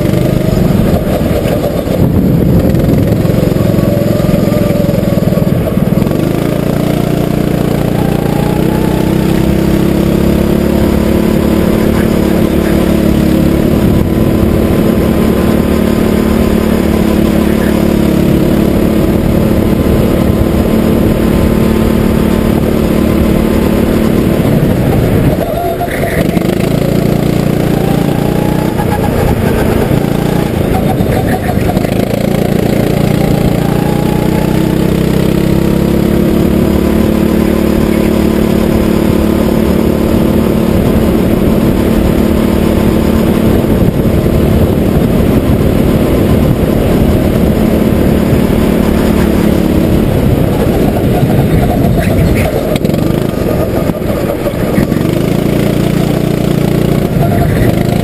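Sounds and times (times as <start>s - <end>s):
kart engine revving: 0.0s - 58.0s
rough rushing noise: 0.0s - 58.0s.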